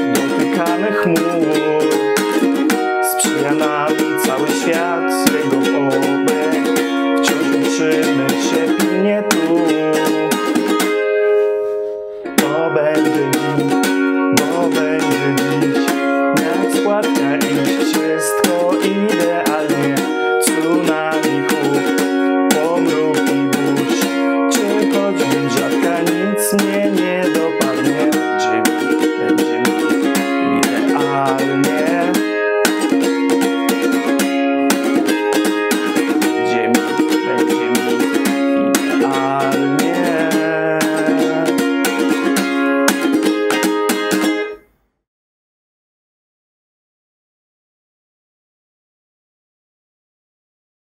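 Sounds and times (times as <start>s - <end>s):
ukulele strumming: 0.0s - 44.8s.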